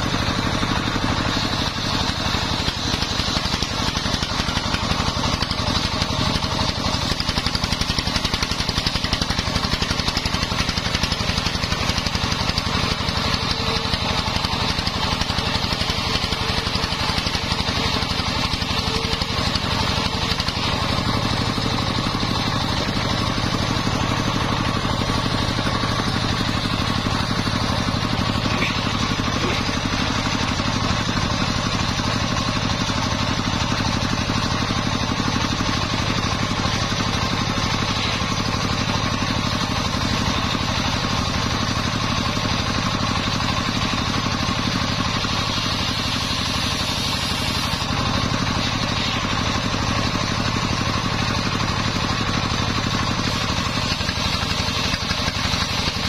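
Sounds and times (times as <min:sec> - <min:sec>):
circular saw ripping timber: 0:00.0 - 0:56.0.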